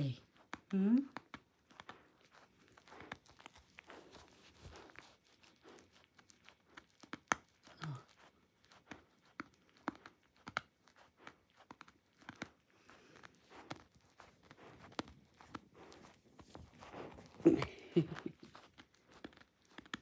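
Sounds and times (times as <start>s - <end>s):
dog chewing plush toy: 0.0s - 20.0s.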